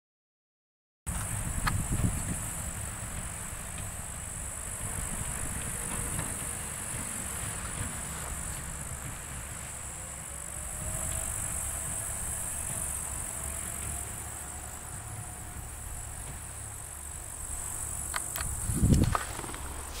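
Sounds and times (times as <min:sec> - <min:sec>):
grass insects chirring: 0:01.1 - 0:20.0.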